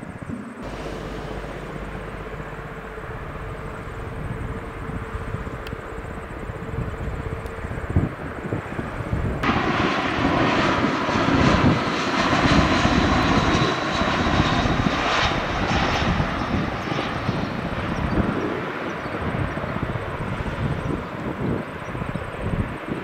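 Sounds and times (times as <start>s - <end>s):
jet engines roaring with whine: 0.0s - 23.0s.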